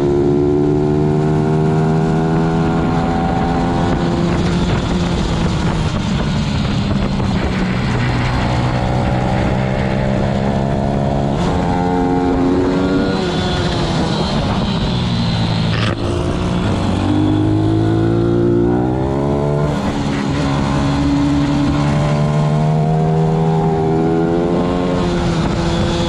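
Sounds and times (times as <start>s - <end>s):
motorbike engine at high revs: 0.0s - 26.0s
wind rushing over microphone: 0.0s - 26.0s.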